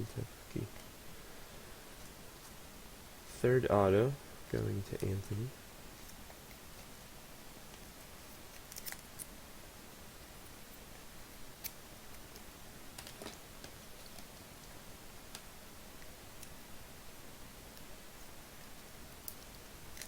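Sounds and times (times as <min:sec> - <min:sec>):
room hiss: 0:00.0 - 0:20.0.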